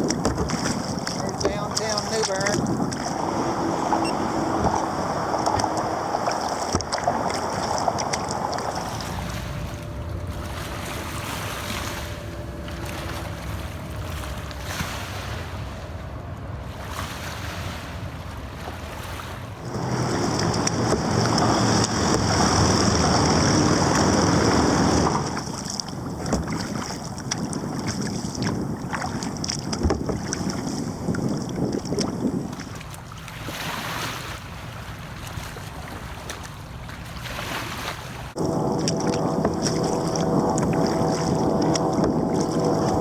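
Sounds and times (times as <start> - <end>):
rushing water: 0.0 - 43.0
wind buffeting microphone: 0.0 - 43.0.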